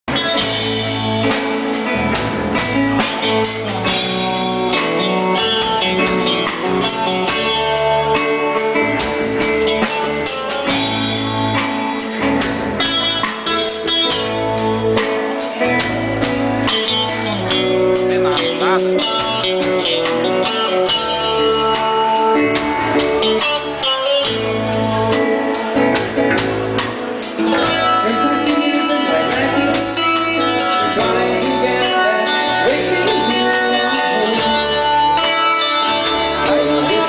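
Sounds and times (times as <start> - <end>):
electric guitar playing: 0.0 - 37.0
drum kit beat: 0.1 - 37.0.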